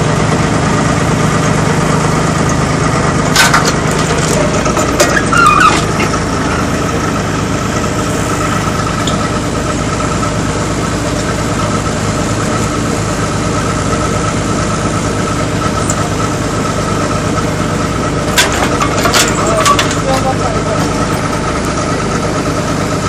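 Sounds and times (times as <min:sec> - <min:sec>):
small diesel engine running: 0:00.0 - 0:23.0.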